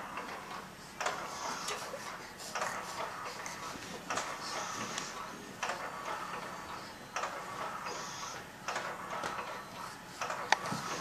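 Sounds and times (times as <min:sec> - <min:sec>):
swing motor whirring: 0:00.0 - 0:11.0.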